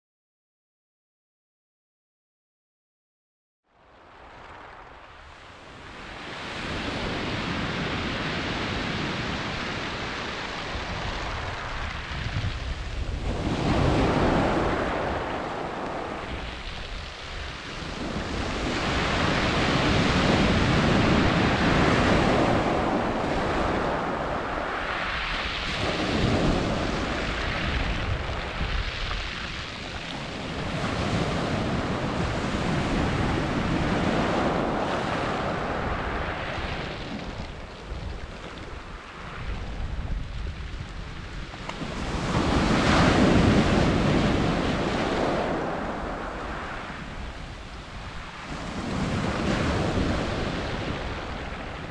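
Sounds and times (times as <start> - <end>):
waves breaking on shingle beach: 4.4 - 51.9.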